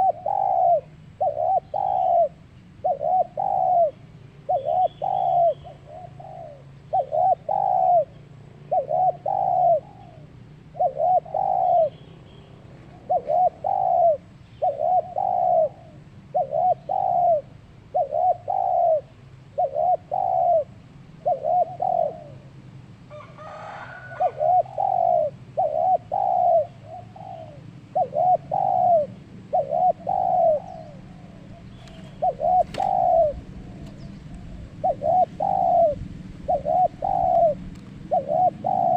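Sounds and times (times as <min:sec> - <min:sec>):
dove cooing: 0:00.0 - 0:12.1, 0:12.8 - 0:38.9.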